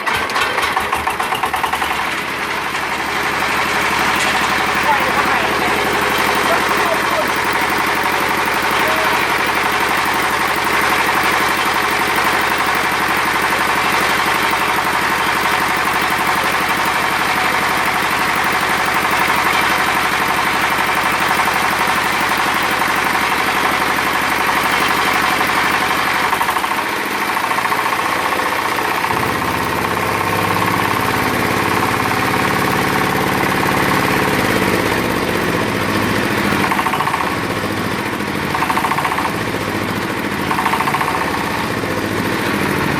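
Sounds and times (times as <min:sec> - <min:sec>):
concrete saw diesel engine running: 0:00.0 - 0:42.9.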